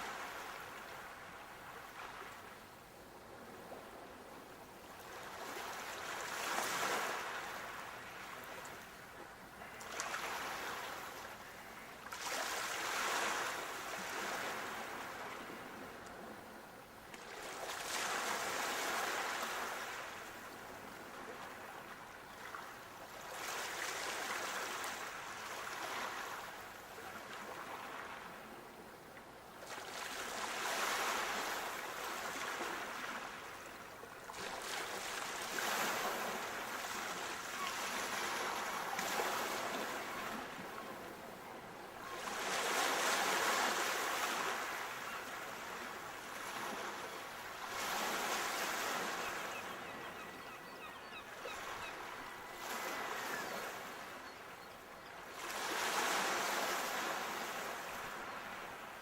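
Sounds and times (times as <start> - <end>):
sea waves breaking on shore: 0.0 - 28.9, 29.5 - 54.4, 55.2 - 59.0.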